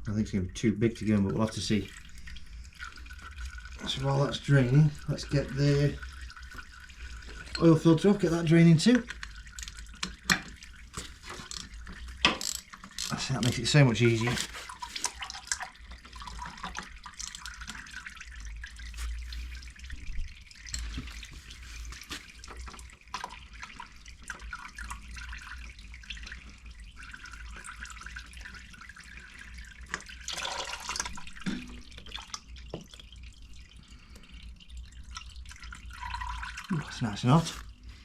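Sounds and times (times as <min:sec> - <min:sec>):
oil trickling into a pan: 0:00.2 - 0:37.9.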